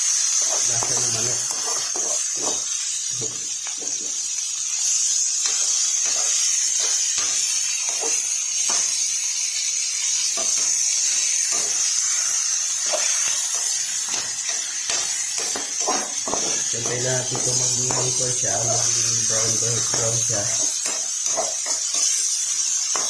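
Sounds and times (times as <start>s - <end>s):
chicken sizzling in hot oil: 0.0s - 23.0s
spatula scraping and tapping: 0.4s - 4.2s, 5.4s - 9.1s, 10.3s - 23.0s.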